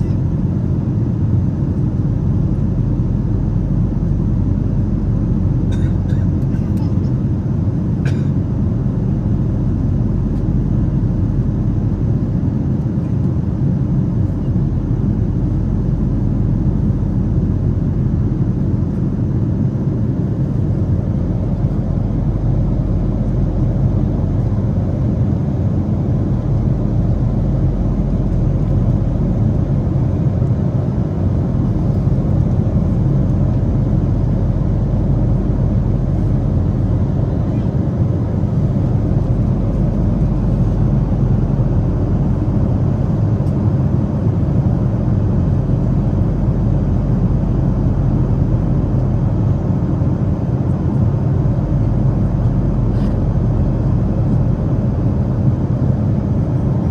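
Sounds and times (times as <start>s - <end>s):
airplane cabin engine rumble: 0.0s - 56.9s.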